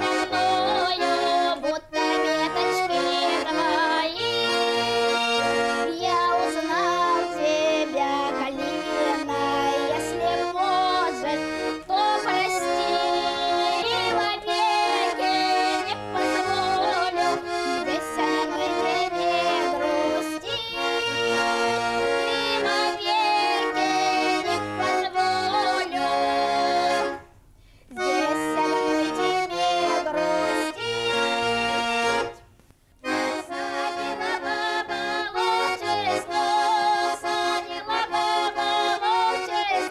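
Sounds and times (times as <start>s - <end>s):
accordion music: 0.0s - 39.9s.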